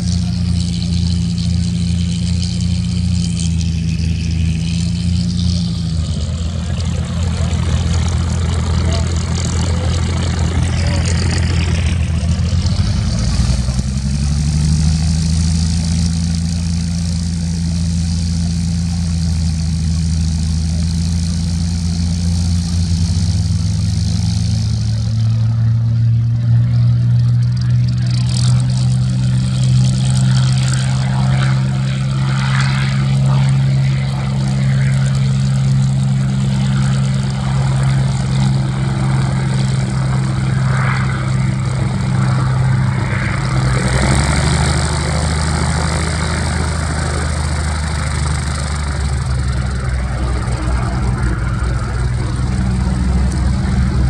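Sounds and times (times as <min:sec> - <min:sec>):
propeller aircraft engines running: 0:00.0 - 0:54.0.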